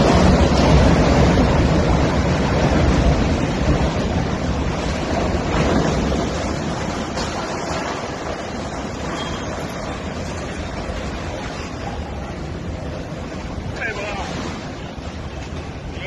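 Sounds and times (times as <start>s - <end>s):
rough sea: 0.0s - 16.0s
wind buffeting microphone: 0.0s - 16.0s.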